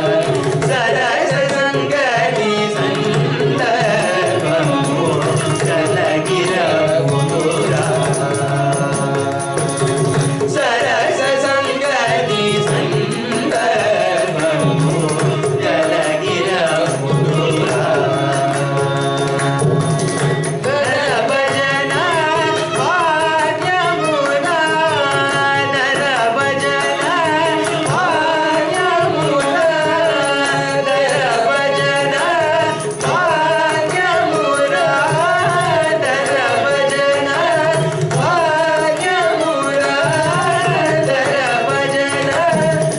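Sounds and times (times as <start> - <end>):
hand drum accompaniment: 0.0 - 42.9
violin: 0.0 - 42.9.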